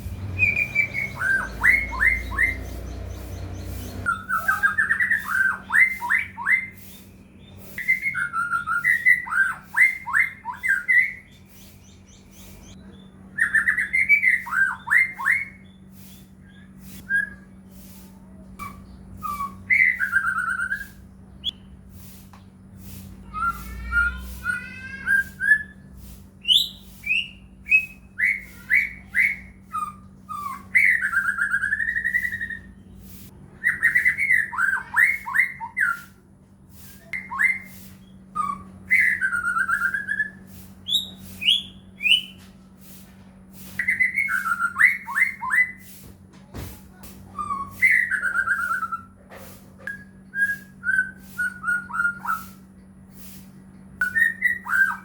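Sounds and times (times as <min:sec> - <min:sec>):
steady low hum: 0:00.0 - 0:55.0
bird singing whistled phrases: 0:00.1 - 0:17.5, 0:18.6 - 0:21.7, 0:23.3 - 0:32.8, 0:33.6 - 0:36.2, 0:36.9 - 0:42.4, 0:43.8 - 0:45.8, 0:47.3 - 0:49.2, 0:49.9 - 0:52.7, 0:54.0 - 0:55.0.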